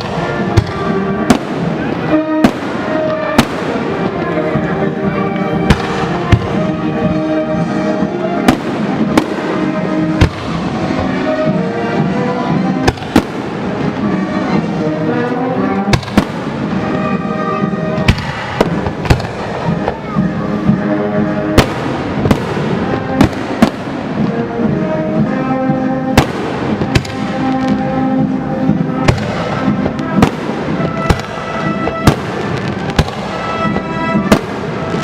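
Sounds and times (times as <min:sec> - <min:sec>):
fireworks bursting with crackle: 0:00.0 - 0:14.8, 0:15.9 - 0:24.6, 0:26.0 - 0:35.0
loud music: 0:00.0 - 0:35.0.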